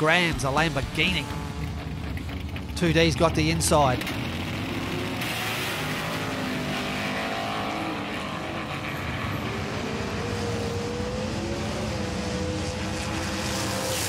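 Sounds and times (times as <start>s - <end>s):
race car engine drone: 0.0s - 14.0s.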